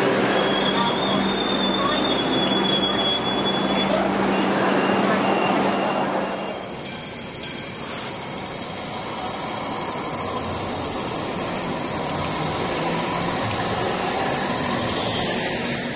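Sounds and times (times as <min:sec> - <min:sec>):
train passing close by: 0:00.0 - 0:15.9.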